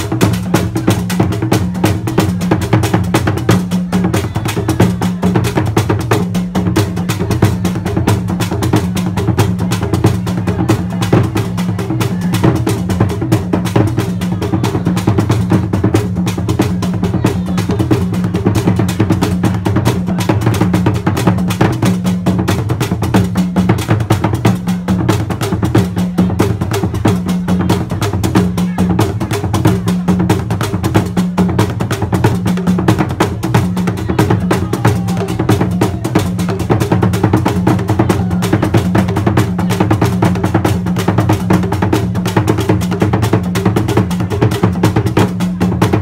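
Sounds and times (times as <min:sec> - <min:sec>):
drum ensemble playing fast rhythm: 0:00.0 - 0:46.0.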